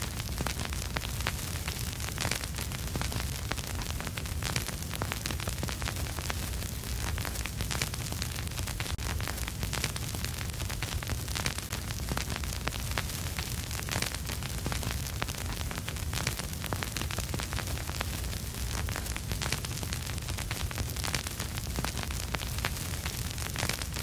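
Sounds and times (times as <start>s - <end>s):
steady hiss: 0.0s - 24.0s
vinyl crackle and pops: 0.0s - 24.0s.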